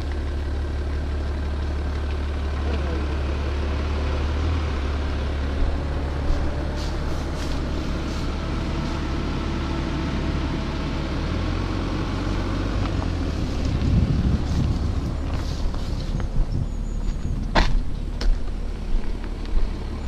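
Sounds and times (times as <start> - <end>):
diesel car engine idling: 0.0 - 20.0.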